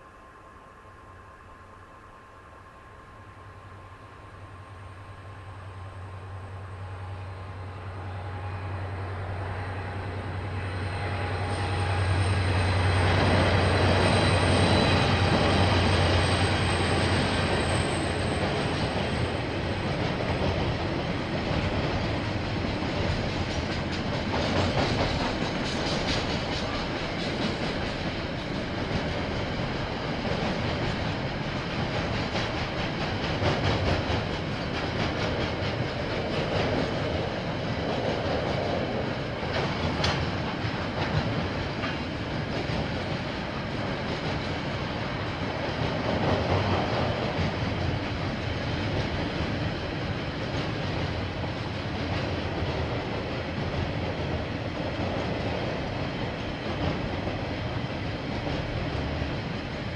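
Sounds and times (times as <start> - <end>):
diesel locomotive engine hum: 0.0 - 59.9
train wheels clickety-clack: 5.7 - 59.9.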